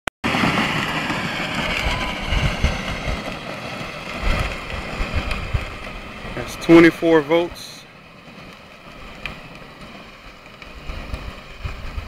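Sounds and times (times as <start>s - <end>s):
wind rumble on microphone: 0.3s - 7.7s, 8.3s - 12.0s.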